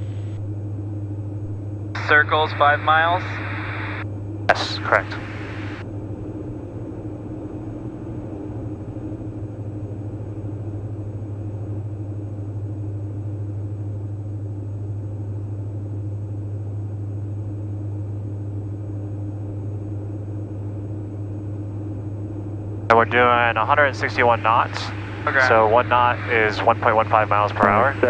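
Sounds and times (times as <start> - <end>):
propellers humming: 0.0 - 13.6, 18.4 - 28.0
aircraft engines droning: 0.0 - 28.0.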